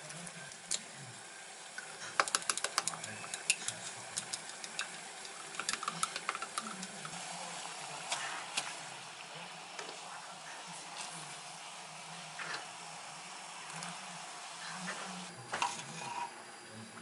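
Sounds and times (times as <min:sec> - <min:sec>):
water boiling in a pot: 0:00.0 - 0:17.0.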